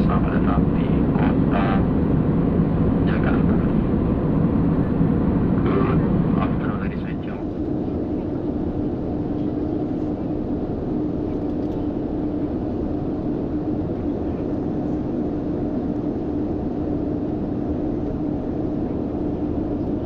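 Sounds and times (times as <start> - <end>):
airliner cabin engine rush: 0.0 - 20.0
low hum: 0.0 - 20.0.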